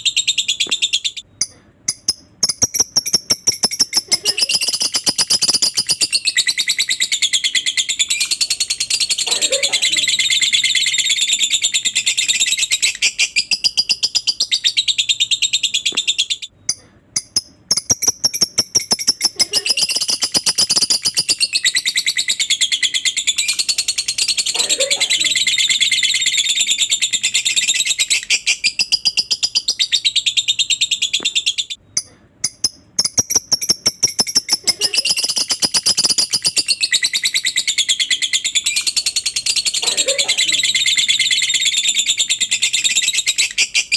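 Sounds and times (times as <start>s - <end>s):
bird chattering trill: 0.0s - 43.9s.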